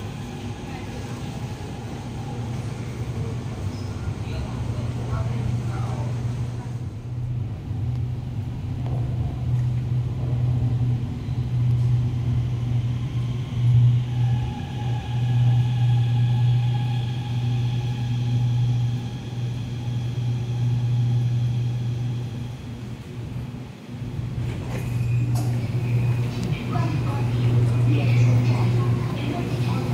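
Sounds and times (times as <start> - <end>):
train rumbling: 0.0 - 29.9.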